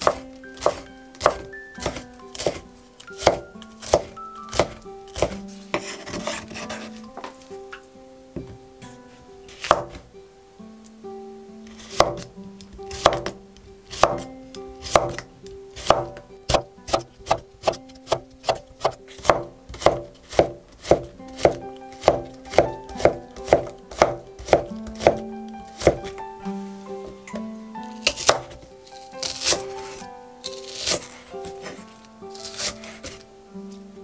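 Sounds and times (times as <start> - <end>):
knife chopping on wooden board: 0.0 - 7.4, 8.4 - 10.0, 11.7 - 12.3, 12.9 - 26.2, 28.0 - 31.8, 32.4 - 33.2
soft background music: 0.0 - 34.0.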